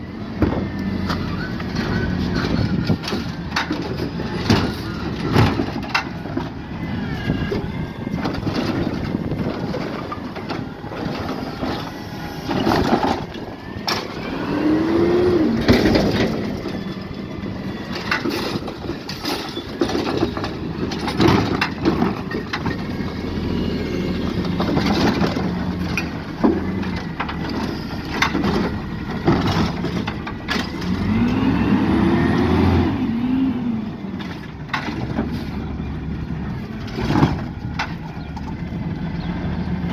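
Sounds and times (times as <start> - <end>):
garbage truck engine revving: 0.0 - 39.9
metal arm and cart clanking: 0.1 - 39.9.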